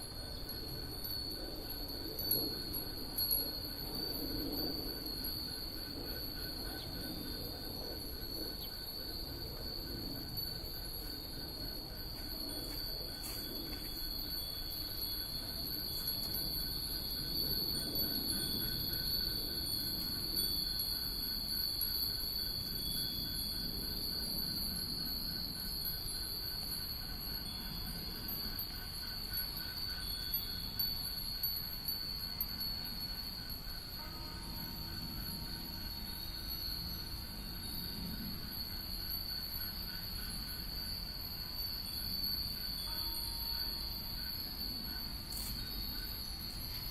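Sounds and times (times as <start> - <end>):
insect trill: 0.0 - 46.9
wind bells tinkling: 0.0 - 46.9.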